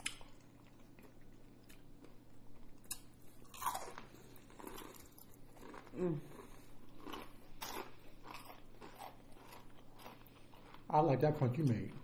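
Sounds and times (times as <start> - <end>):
breading crunching: 0.0 - 10.9
biting and chewing crispy food: 0.0 - 12.0.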